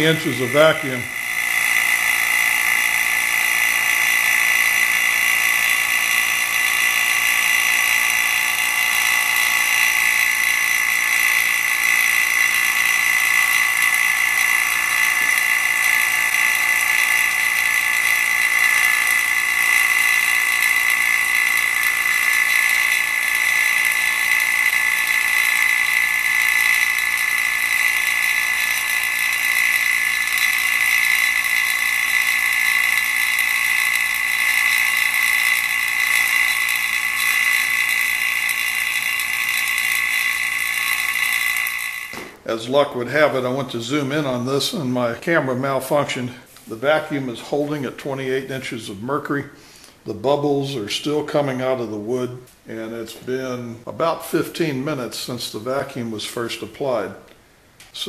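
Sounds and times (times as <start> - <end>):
vacuum pump droning: 0.0 - 54.0.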